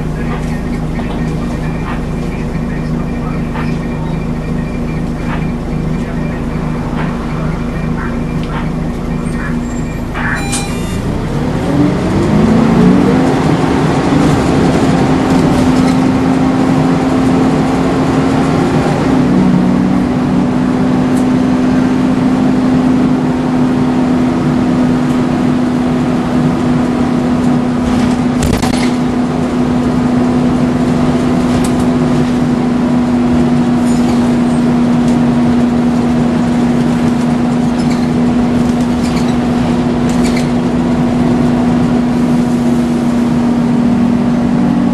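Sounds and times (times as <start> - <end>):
engine cooling fan droning: 0.0 - 44.9.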